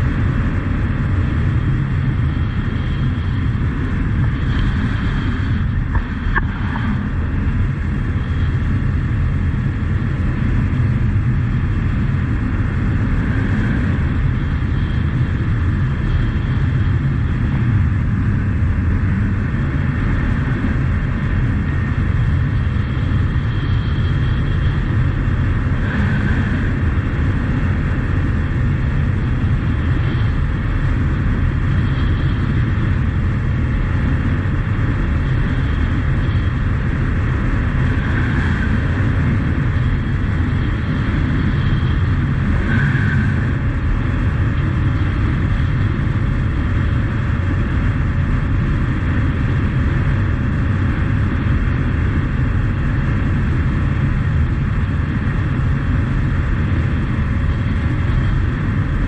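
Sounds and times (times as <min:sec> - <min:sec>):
wind on microphone: 0:00.0 - 0:59.0.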